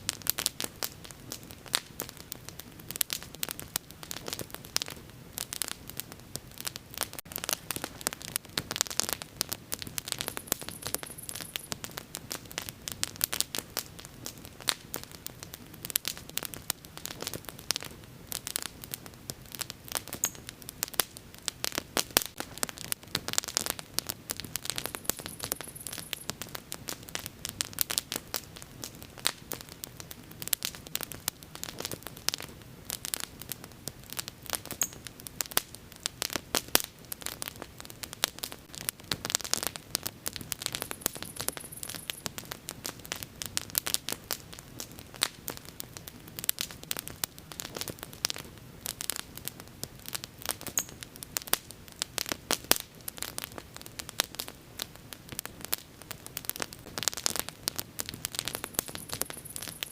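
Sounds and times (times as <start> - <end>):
bonfire crackling and popping: 0.0 - 59.9
fire low hiss: 0.0 - 59.9.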